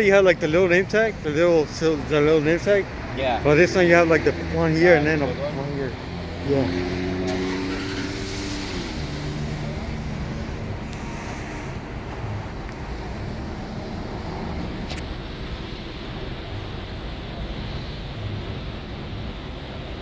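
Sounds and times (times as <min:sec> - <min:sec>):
cars passing on busy street: 0:00.0 - 0:20.0.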